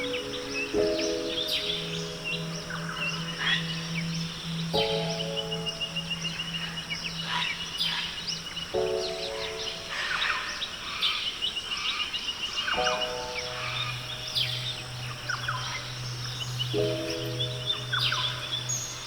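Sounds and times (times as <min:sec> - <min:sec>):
soft relaxation music: 0:00.0 - 0:19.0
songbirds chirping: 0:00.0 - 0:19.0.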